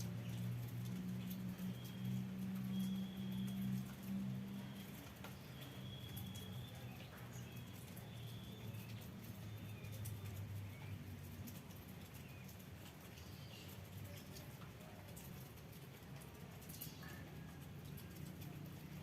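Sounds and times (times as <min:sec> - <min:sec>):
light ticks: 0:00.0 - 0:19.0.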